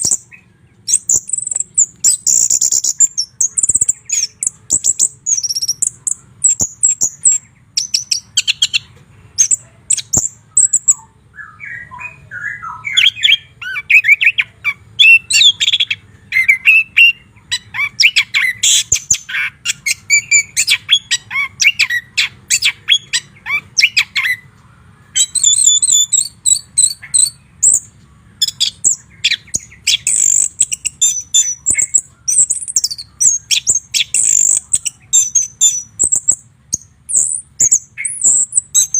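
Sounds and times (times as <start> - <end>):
bird singing: 0.0 - 38.9
faint low hum: 0.0 - 38.9.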